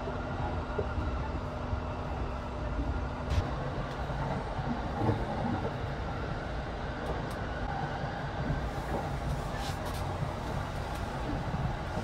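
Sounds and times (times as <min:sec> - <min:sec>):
train cabin rumble: 0:00.0 - 0:12.0.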